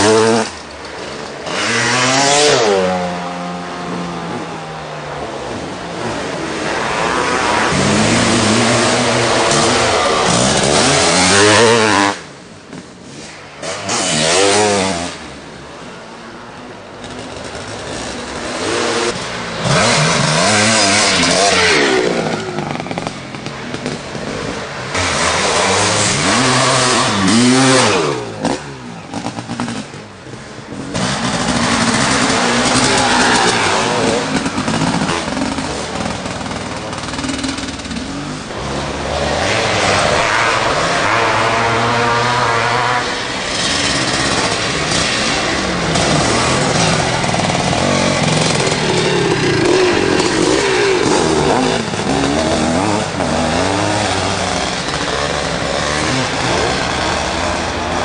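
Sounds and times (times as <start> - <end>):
motocross bikes revving past: 0.0 - 16.1, 17.0 - 58.0.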